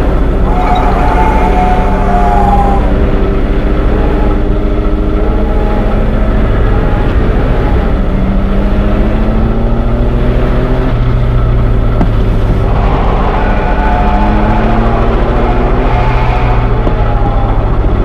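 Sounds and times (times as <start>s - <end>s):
train engine droning: 0.0s - 18.0s.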